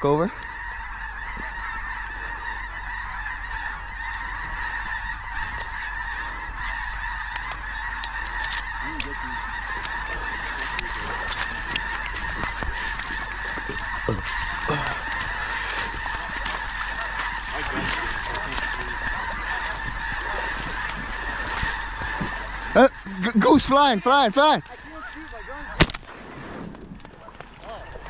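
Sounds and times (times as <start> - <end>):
geese honking: 0.0 - 26.4, 27.0 - 28.0.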